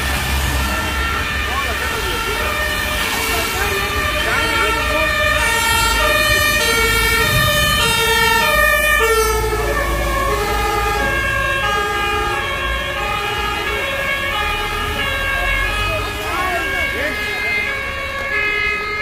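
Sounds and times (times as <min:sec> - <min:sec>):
fire engine two-tone siren: 0:00.0 - 0:19.0.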